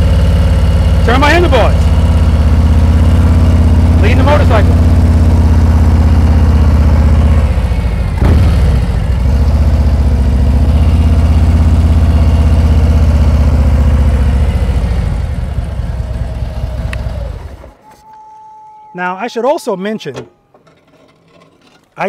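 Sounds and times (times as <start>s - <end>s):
motorcycle engine at low revs: 0.0s - 17.8s.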